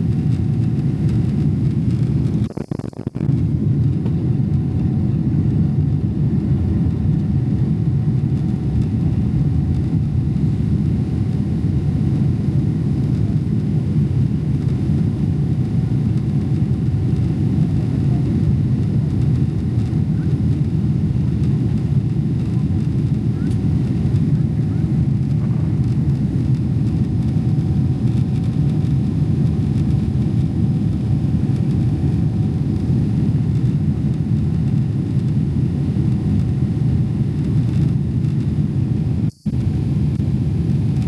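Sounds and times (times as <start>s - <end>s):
airliner cabin drone: 0.0s - 41.0s
faint steady hum: 0.0s - 41.0s.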